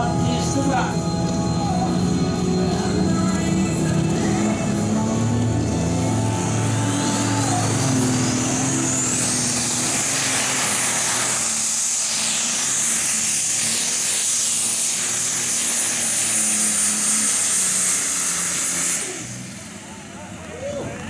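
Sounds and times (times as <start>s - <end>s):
dense running noise: 0.0s - 21.0s
tractor engine high whine: 0.0s - 21.0s.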